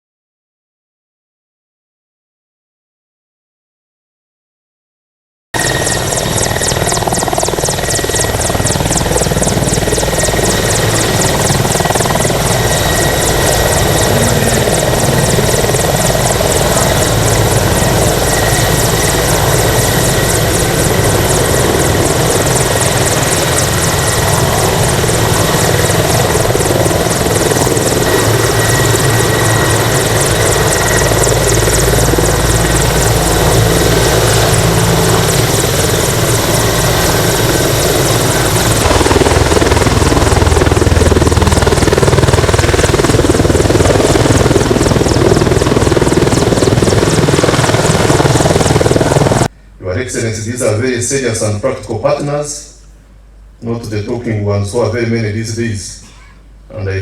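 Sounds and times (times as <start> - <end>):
helicopter rotor blades chopping: 5.6 - 52.6
turbine whine: 5.6 - 54.2.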